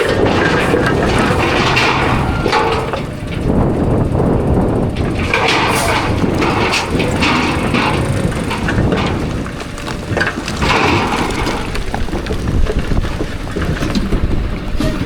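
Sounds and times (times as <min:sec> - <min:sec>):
rock clattering: 0:00.0 - 0:03.6, 0:04.9 - 0:14.6
bulldozer engine and tracks rumble: 0:00.0 - 0:15.0.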